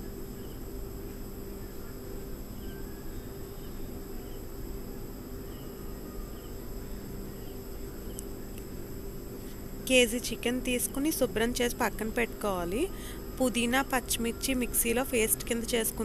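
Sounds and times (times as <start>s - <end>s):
faint high whine: 0.0s - 16.0s
low electrical hum: 0.0s - 16.0s.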